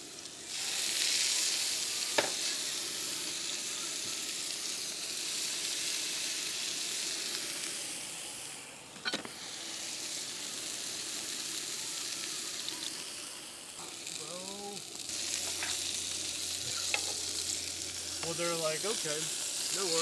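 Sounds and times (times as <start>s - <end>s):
steaks sizzling on a griddle: 0.0s - 20.0s.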